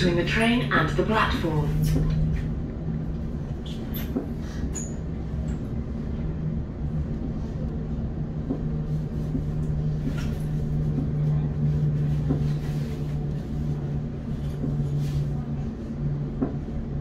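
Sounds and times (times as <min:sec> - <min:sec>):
train cabin hum: 0:00.0 - 0:17.0
train running rumble: 0:00.0 - 0:17.0.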